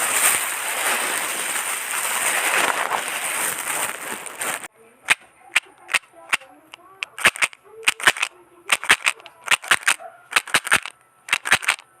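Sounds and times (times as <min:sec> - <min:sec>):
sharp cracks: 0:00.0 - 0:11.9.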